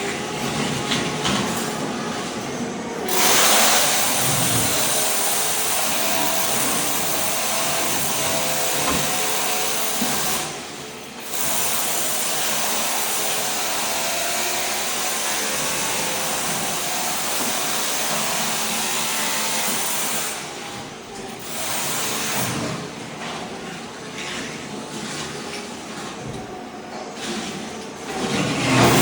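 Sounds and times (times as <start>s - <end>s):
floor scraper machine scraping: 0.0s - 29.0s.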